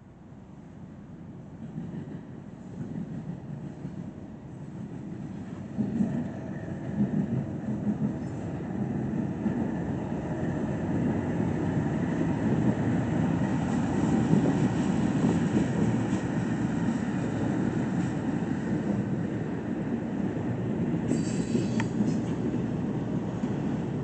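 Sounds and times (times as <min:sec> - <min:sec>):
diesel locomotive engines: 0:00.0 - 0:24.0
train wheels rolling on rails: 0:01.6 - 0:24.0.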